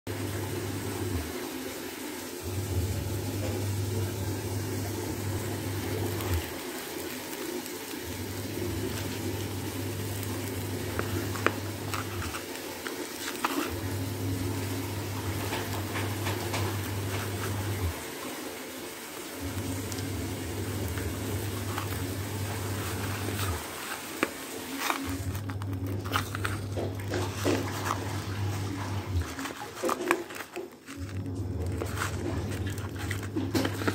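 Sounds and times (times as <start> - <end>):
low machine hum: 2.4 - 33.9.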